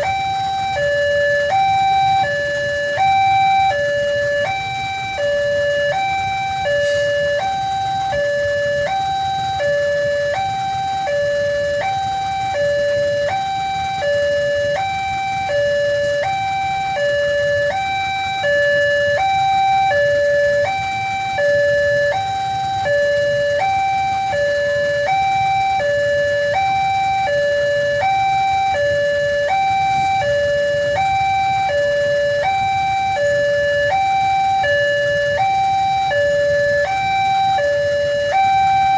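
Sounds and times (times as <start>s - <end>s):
level crossing two-tone alarm: 0.0s - 38.9s
low steady rumble: 0.0s - 38.9s.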